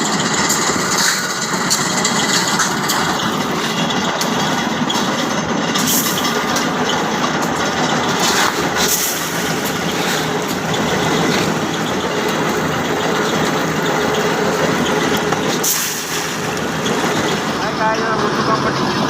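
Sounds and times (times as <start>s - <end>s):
heavy engine running: 0.0s - 19.0s
hissing flares: 0.9s - 17.8s.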